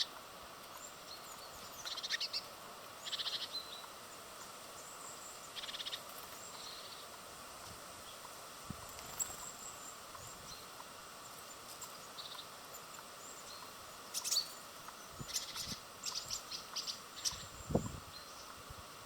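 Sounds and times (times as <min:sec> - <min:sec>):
small birds chirping: 0:00.0 - 0:19.0
steady outdoor hiss: 0:00.0 - 0:19.0.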